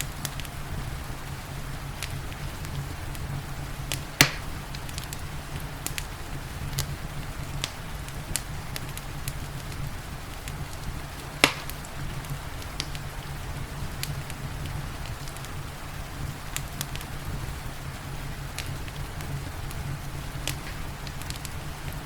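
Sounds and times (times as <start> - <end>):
loud fire pops: 0.0 - 22.0
rain hiss: 0.0 - 22.0
wood fire crackling: 0.0 - 22.0.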